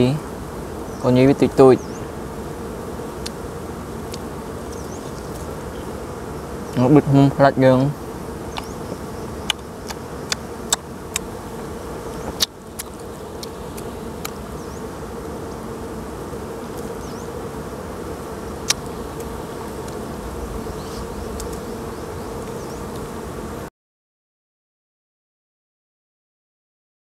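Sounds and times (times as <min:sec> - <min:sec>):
bees buzzing: 0:00.0 - 0:23.7.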